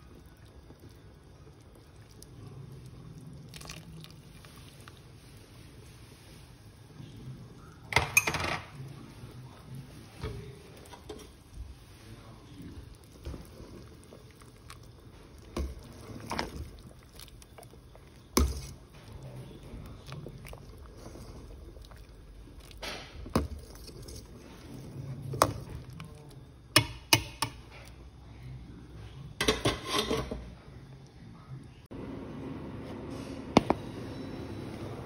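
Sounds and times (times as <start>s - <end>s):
soup sloshing in pot: 0.0s - 28.3s.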